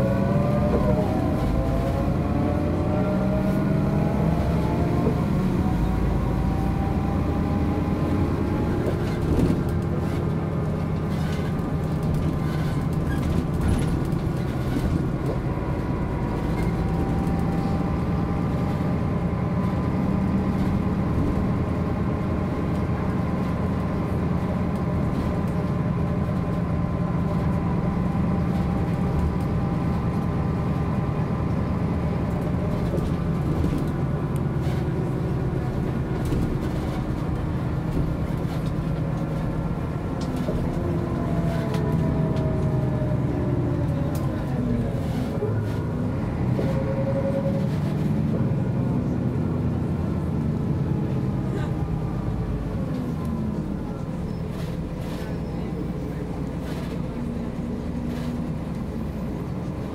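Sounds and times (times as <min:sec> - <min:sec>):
bus engine drone with whine: 0:00.0 - 0:59.9.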